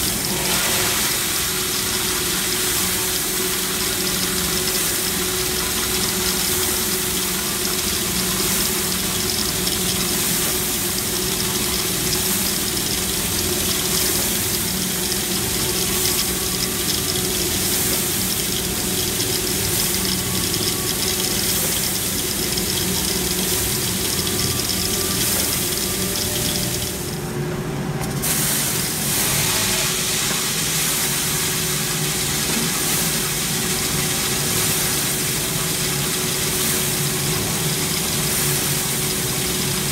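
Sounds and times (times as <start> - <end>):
coffee beans pouring hiss: 0.0 - 27.3, 28.0 - 39.9
coffee roaster humming: 0.0 - 39.9.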